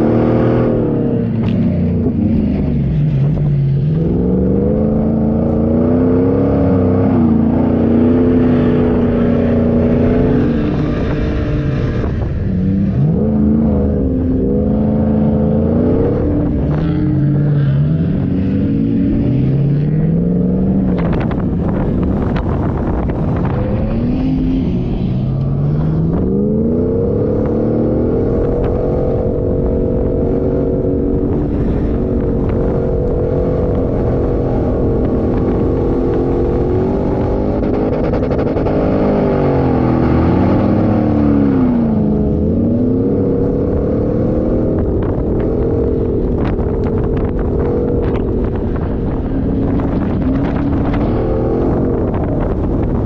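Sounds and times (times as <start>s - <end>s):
low rumble of driving noise: 0.0s - 53.0s
off-road engine under load: 0.0s - 53.0s.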